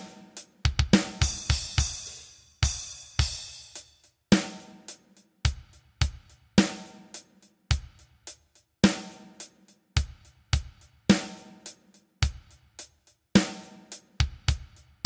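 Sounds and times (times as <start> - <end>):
hi-hat: 0.0 - 15.0
kick drum and snare beat: 0.0 - 15.0.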